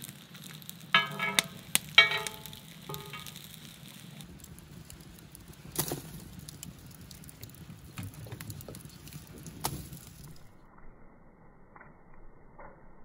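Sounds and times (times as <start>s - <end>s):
wood fire crackling: 0.0s - 10.6s
sharp cracks of fire: 0.0s - 10.7s.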